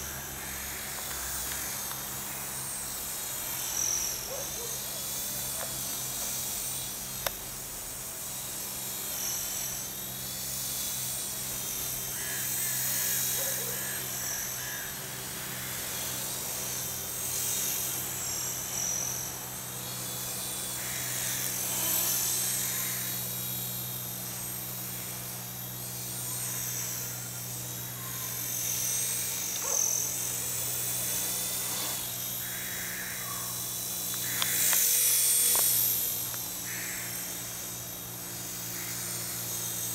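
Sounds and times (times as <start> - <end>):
rc helicopter whining: 0.0 - 39.9.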